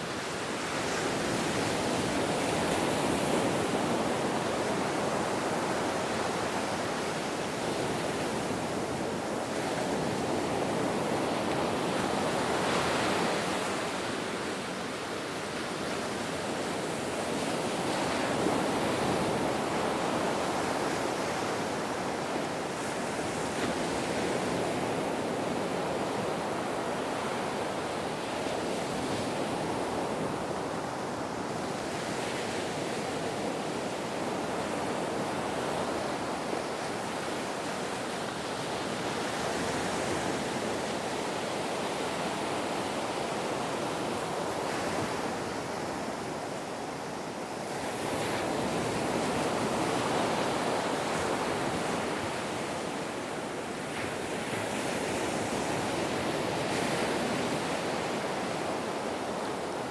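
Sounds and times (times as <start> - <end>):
ocean waves washing on shore: 0.0 - 59.9.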